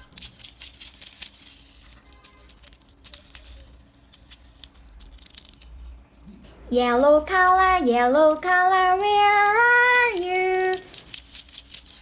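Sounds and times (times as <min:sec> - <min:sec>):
plastic toys clicking and rustling: 0:00.0 - 0:06.3, 0:08.1 - 0:12.0
faint low hum: 0:00.0 - 0:12.0.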